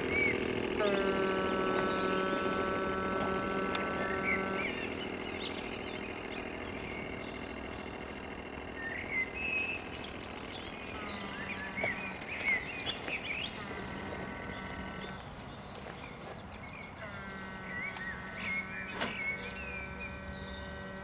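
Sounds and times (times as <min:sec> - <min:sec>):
low hum with higher tones: 0:00.0 - 0:21.0
outdoor background hiss: 0:00.0 - 0:21.0
small birds chirping: 0:00.0 - 0:21.0.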